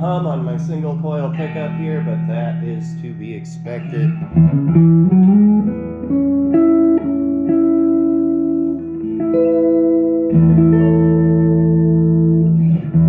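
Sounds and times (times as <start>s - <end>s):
clean electric guitar notes and chords: 0.0s - 13.0s.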